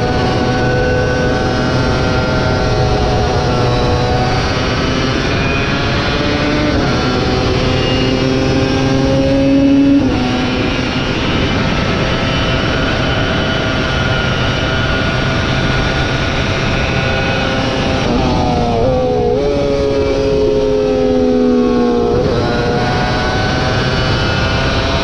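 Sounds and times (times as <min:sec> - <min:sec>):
motorcycle engine at speed: 0:00.0 - 0:25.0
wind noise: 0:00.0 - 0:25.0.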